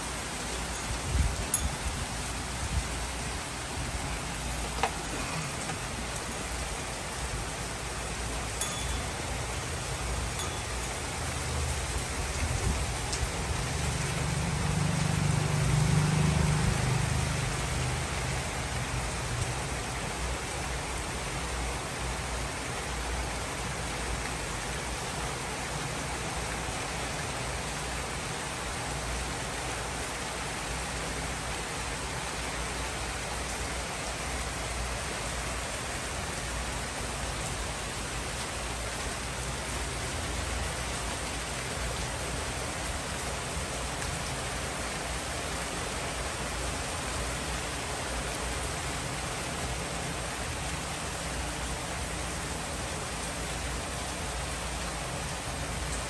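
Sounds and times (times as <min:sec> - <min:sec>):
rain on trees and roofs: 0:00.0 - 0:56.0.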